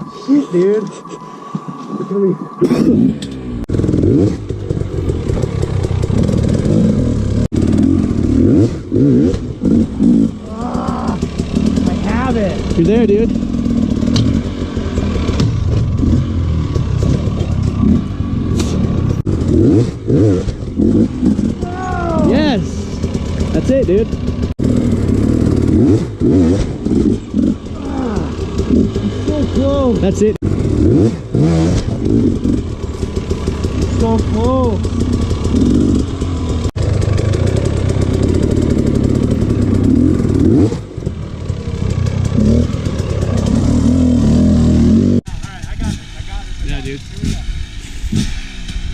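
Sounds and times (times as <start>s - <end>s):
dirt bike engine at low revs: 0.0s - 46.0s.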